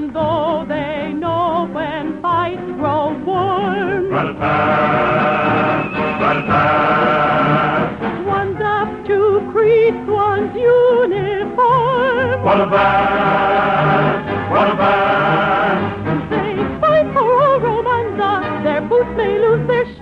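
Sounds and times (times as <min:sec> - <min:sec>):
solo voice singing with vibrato: 0:00.0 - 0:05.6, 0:06.2 - 0:20.0
choir and orchestra: 0:01.4 - 0:19.8.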